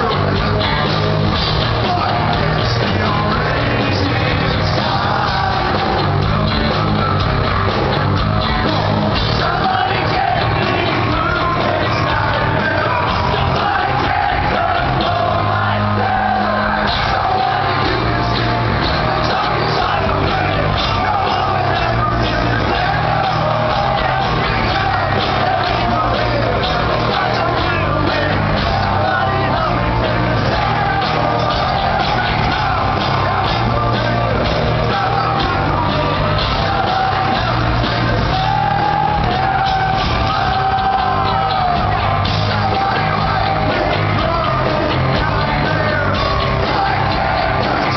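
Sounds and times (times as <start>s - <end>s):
live hard rock band: 0.0s - 47.9s
person singing and shouting: 8.6s - 47.9s.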